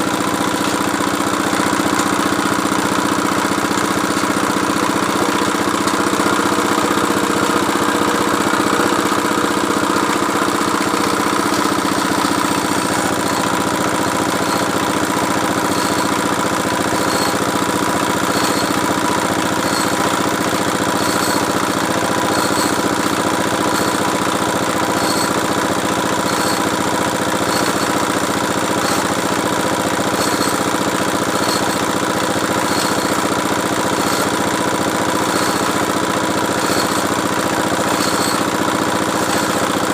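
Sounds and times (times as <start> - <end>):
drilling machine engine running: 0.0 - 39.9
faint regular ticking: 0.3 - 39.9.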